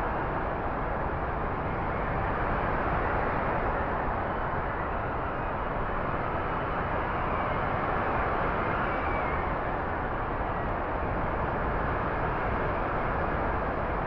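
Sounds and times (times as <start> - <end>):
strong storm wind blowing: 0.0 - 14.0.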